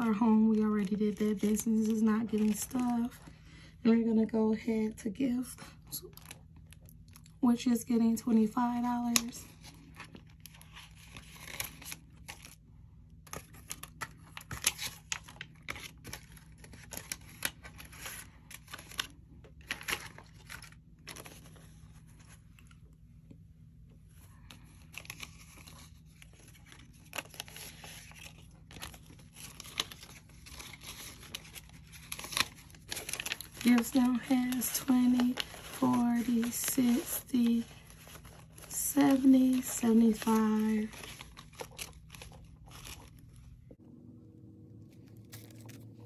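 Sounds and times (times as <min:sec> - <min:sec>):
paper bills rustling: 0:00.0 - 0:03.4, 0:08.5 - 0:22.8, 0:24.1 - 0:43.6, 0:44.9 - 0:46.0.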